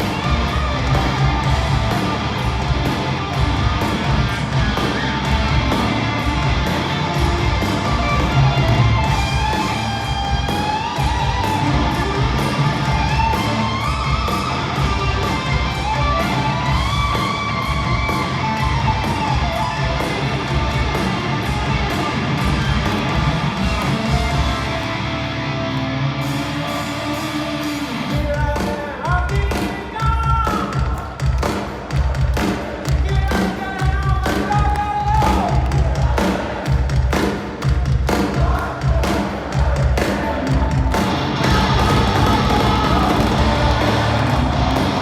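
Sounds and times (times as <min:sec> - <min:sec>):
hard rock band playing: 0:00.0 - 0:45.0.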